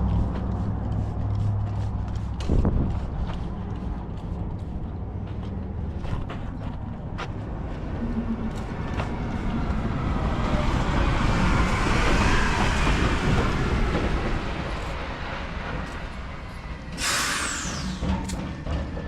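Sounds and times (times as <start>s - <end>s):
vehicle rumble: 0.0s - 18.8s.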